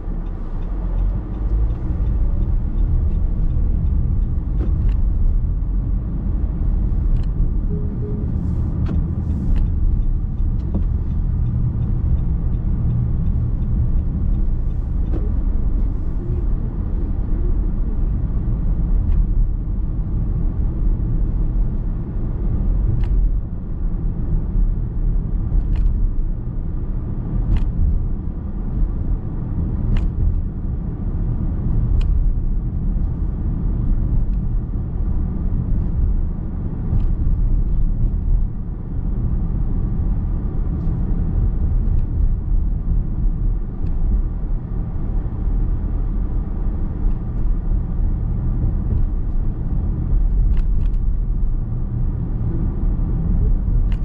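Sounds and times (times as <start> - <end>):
car road noise rumble: 0.0 - 54.0.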